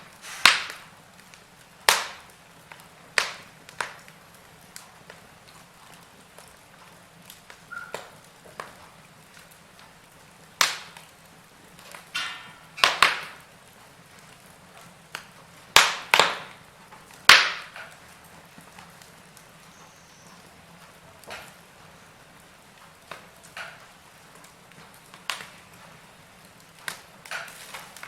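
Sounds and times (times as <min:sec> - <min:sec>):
logs popping: 0:00.0 - 0:28.0
wood fire crackling: 0:00.0 - 0:28.0.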